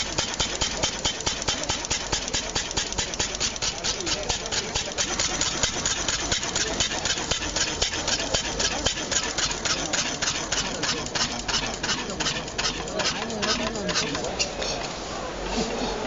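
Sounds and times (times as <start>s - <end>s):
single-cylinder engine idling: 0.0s - 14.4s.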